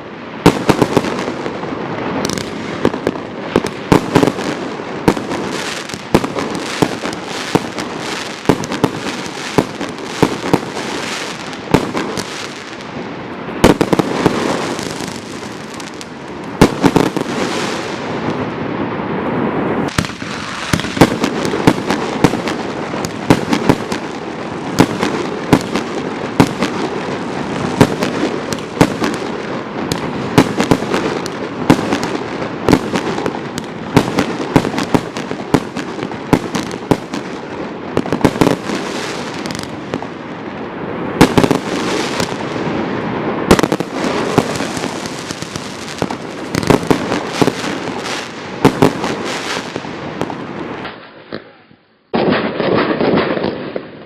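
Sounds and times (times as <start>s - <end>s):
firework bangs: 0.0s - 54.0s
firework hiss: 0.3s - 51.4s.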